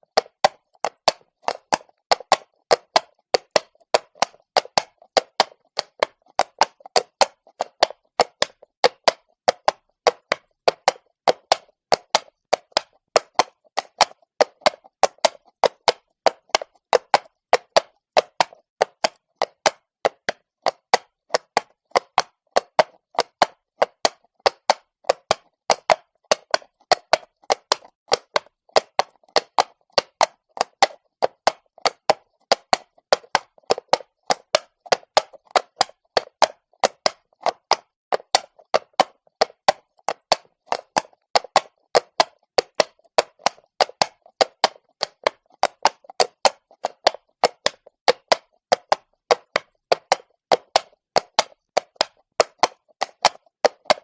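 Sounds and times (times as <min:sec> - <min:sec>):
horse hooves clopping on cobblestones: 0:00.1 - 0:54.0.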